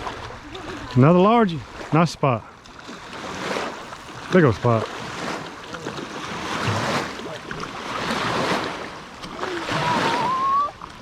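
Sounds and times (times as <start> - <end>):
lapping water: 0.0 - 11.0
wind: 0.0 - 11.0.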